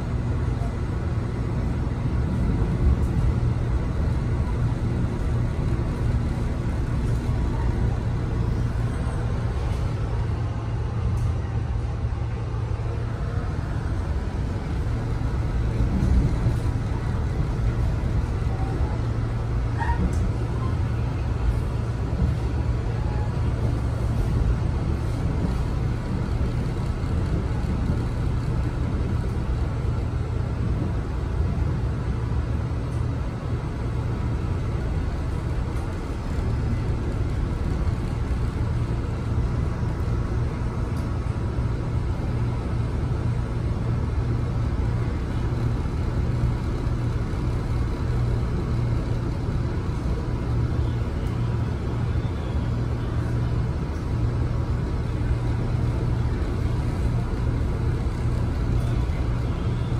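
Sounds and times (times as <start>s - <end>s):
low rumble of moving train: 0.0s - 59.9s.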